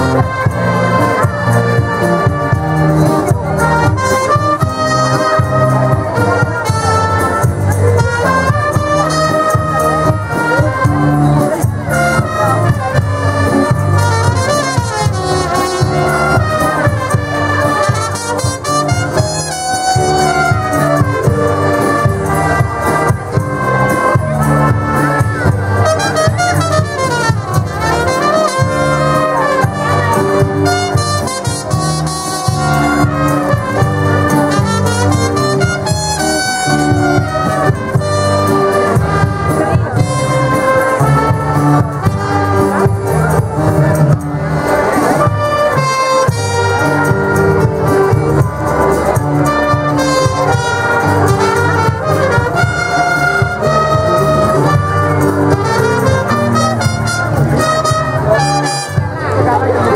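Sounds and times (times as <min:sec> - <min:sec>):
wind band playing lively tune: 0:00.0 - 0:59.9.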